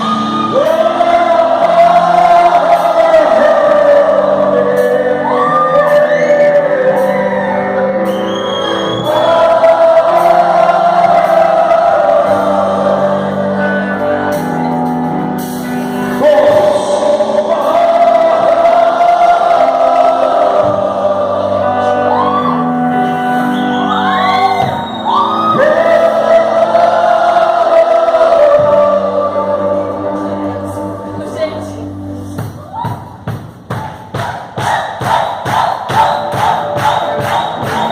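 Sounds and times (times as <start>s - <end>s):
gospel song singing: 0.0s - 37.9s.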